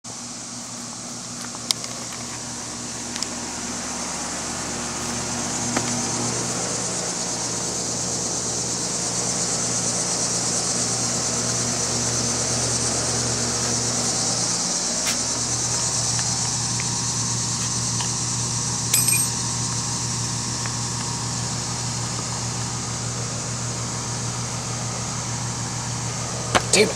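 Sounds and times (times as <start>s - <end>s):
heating equipment humming and hissing: 0.1s - 26.9s.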